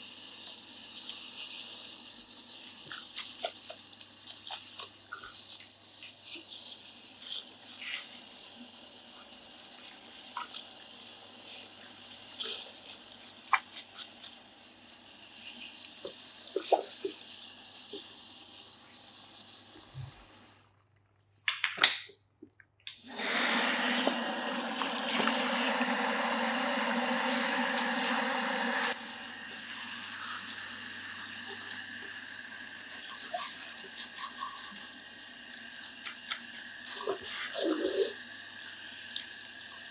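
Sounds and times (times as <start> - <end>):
water spraying over hair: 2.5 - 18.1, 23.0 - 39.9.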